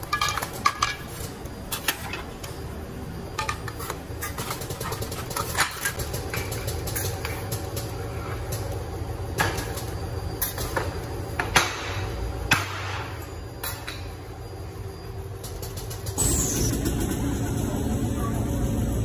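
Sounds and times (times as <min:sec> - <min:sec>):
factory machinery hum: 0:00.0 - 0:19.0.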